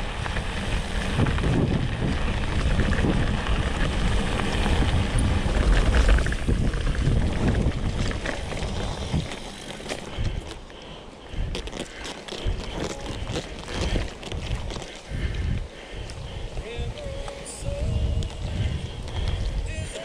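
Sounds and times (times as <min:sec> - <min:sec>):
wind buffeting microphone: 0:00.0 - 0:10.6, 0:11.3 - 0:20.0
bike tyres rolling on dirt: 0:00.0 - 0:20.0.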